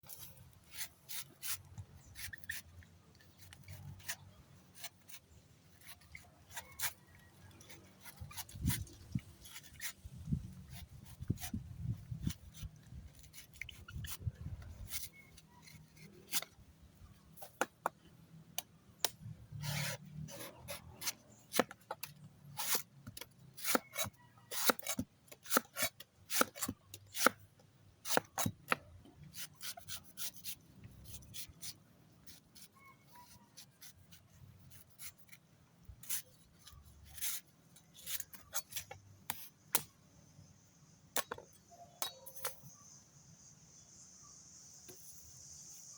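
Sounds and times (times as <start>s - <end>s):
knife scraping coconut husk: 0.0s - 45.9s.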